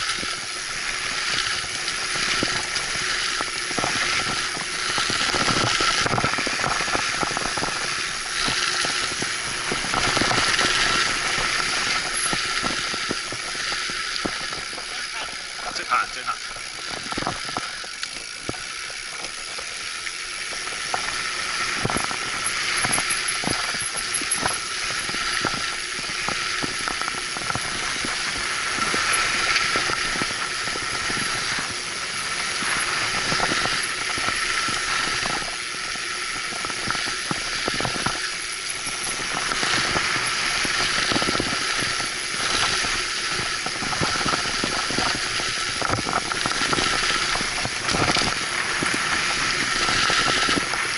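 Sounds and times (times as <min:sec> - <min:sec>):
bike rattling over bumps: 0:00.0 - 0:50.9
bike tyre noise: 0:00.0 - 0:50.9.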